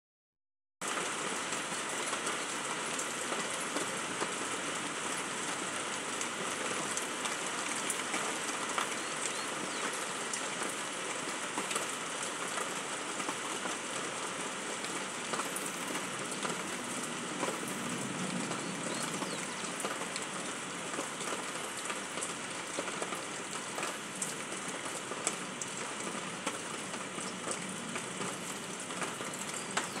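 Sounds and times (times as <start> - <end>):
rain falling on grass: 0.8 - 30.0
raindrops ticking: 0.8 - 30.0.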